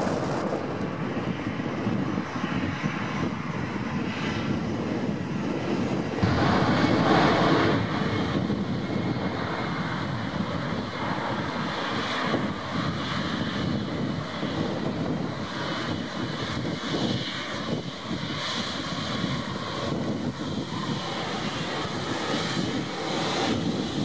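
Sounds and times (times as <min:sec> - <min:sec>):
jet engines taxiing: 0:00.0 - 0:24.0.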